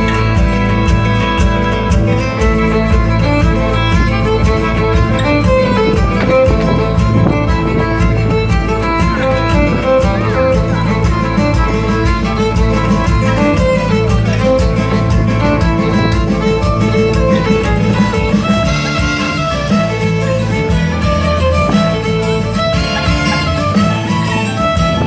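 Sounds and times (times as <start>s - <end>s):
music with steady beat: 0.0s - 25.0s.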